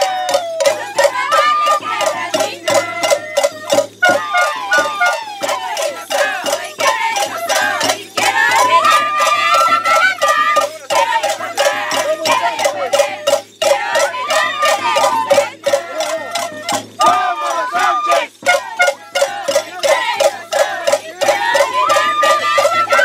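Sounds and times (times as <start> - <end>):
folk music with percussion: 0.0 - 23.0.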